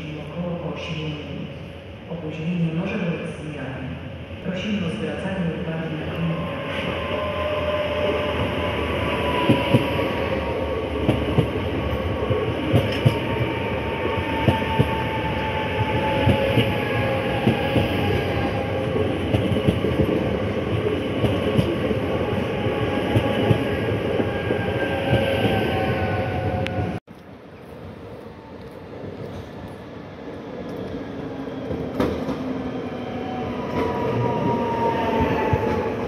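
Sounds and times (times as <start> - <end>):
train rumble: 5.8 - 36.0.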